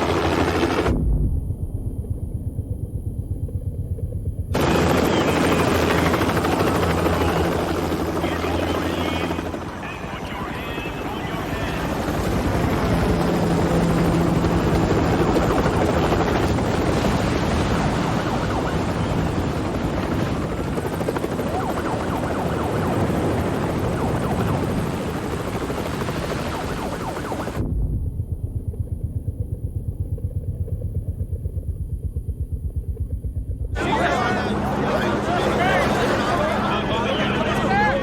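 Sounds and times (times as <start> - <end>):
helicopter rotor and turbine: 0.0 - 38.0.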